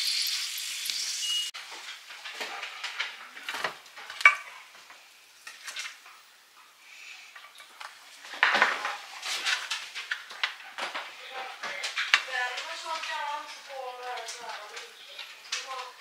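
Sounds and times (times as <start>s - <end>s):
faint sizzling: 0.0s - 16.0s.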